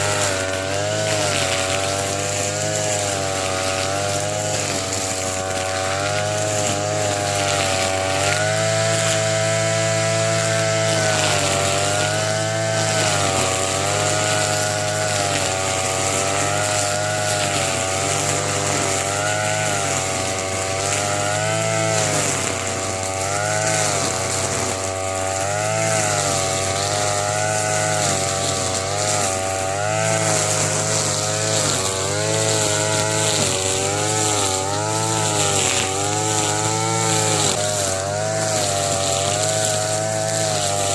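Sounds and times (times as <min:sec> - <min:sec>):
brush cutter engine at high revs: 0:00.0 - 0:40.9.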